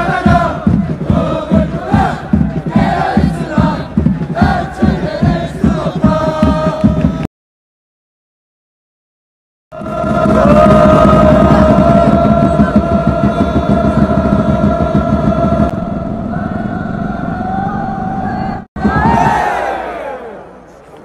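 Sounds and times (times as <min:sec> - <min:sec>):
football crowd noise: 0:00.0 - 0:07.3, 0:09.7 - 0:21.0.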